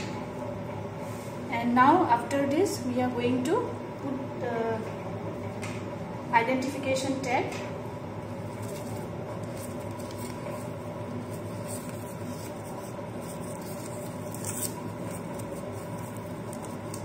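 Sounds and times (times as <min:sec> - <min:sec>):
room hum with hiss: 0:00.0 - 0:17.0.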